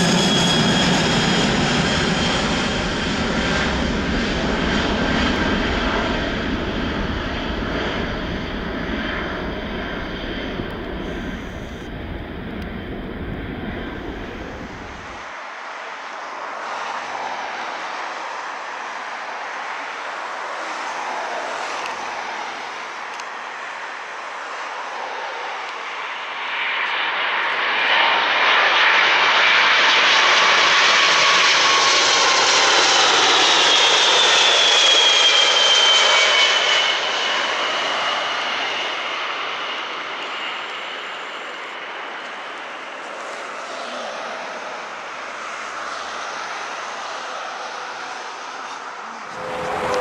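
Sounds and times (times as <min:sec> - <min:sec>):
jet airliner flying over: 0:00.0 - 0:50.0
jet engine high whine: 0:00.0 - 0:50.0.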